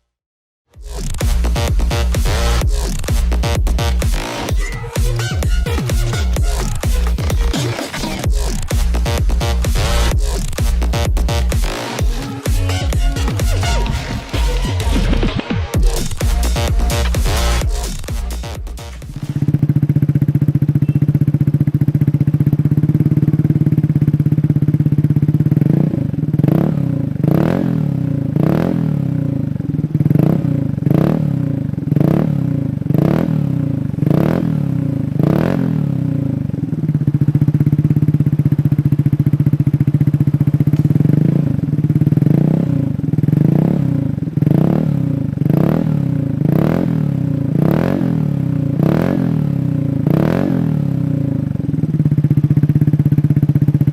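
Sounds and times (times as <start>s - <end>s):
motorcycle idling and revving: 0.8s - 53.9s.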